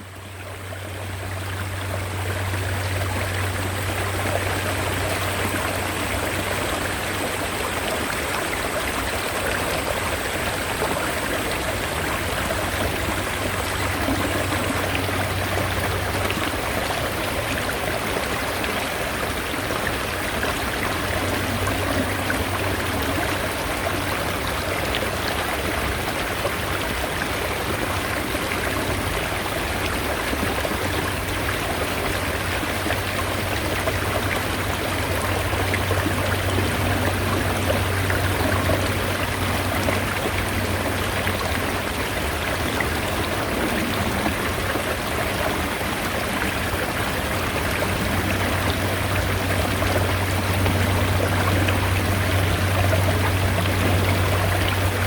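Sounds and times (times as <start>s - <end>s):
mountain stream flowing: 0.0s - 55.0s.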